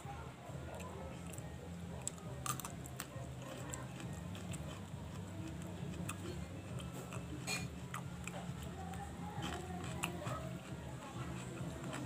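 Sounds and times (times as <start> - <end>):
steady low hum: 0.0 - 12.0
chewing leaf with mouth clicks: 0.7 - 12.0.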